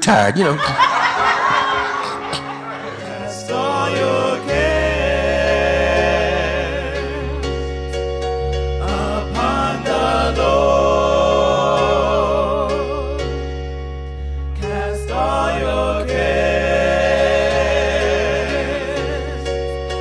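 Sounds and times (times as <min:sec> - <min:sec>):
electronic keyboard chords: 0:00.0 - 0:20.0
gospel choir singing: 0:00.5 - 0:20.0.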